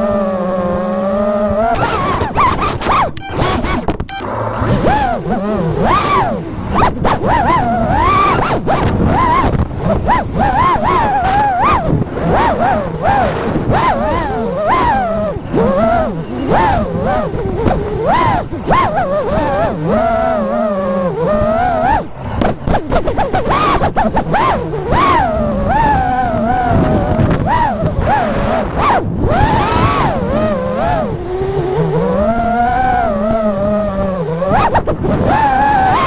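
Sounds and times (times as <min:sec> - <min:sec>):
drone motors whining: 0:00.0 - 0:36.0
wind buffeting: 0:00.0 - 0:36.0.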